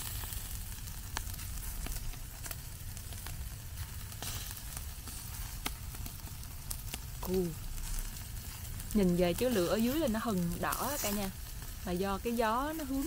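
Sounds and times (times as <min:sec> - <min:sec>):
meat sizzling on grill: 0:00.0 - 0:13.0
sharp pops and crackles: 0:00.0 - 0:13.0.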